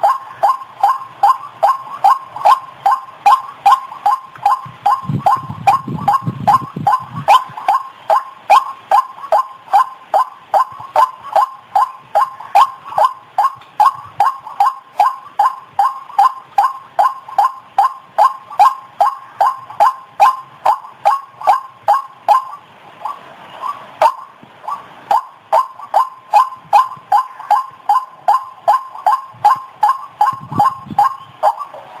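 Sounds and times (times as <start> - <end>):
waterhen repeated call notes: 0.0 - 32.0.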